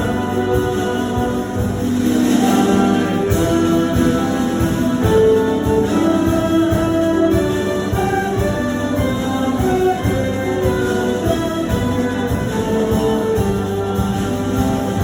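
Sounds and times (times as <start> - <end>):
big band holding chords: 0.0 - 15.0.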